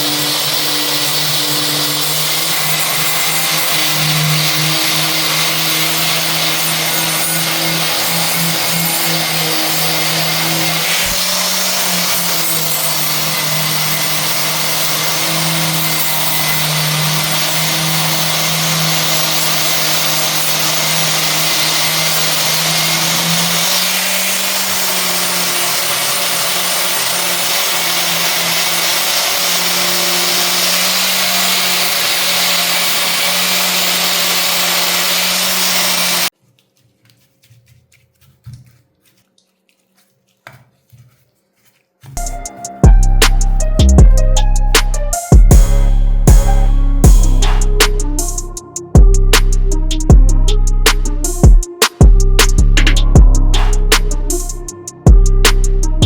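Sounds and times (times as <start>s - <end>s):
power tool running: 0.0s - 36.3s, 42.2s - 56.0s.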